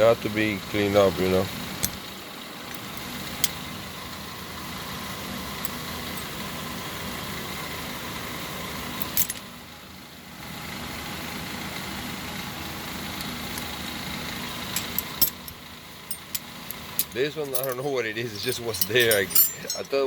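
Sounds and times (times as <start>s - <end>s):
steady engine-like hum: 0.0s - 20.0s.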